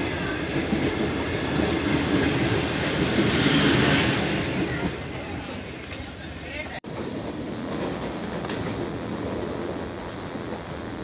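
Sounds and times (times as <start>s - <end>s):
passing train coaches: 0.0s - 11.0s
train wheels rumbling on rails: 0.0s - 11.0s.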